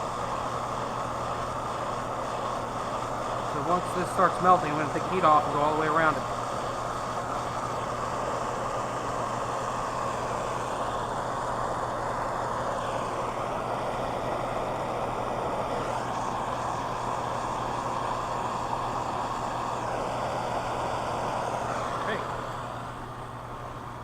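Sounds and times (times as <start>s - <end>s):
gas torch flame hissing: 0.0s - 24.0s.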